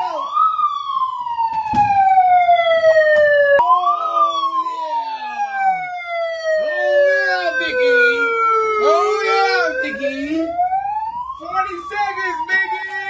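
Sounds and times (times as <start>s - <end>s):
wailing siren: 0.0s - 13.0s.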